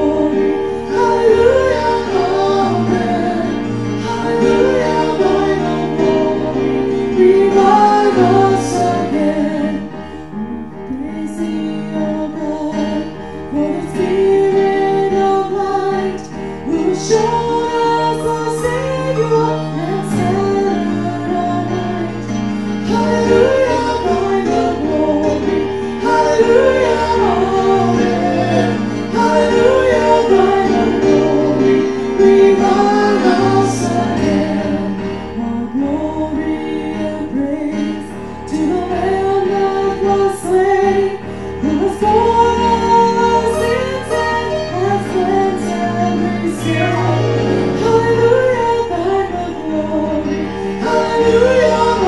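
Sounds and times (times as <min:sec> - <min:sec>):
instrumental backing: 0:00.0 - 0:52.0
woman singing: 0:00.0 - 0:52.0.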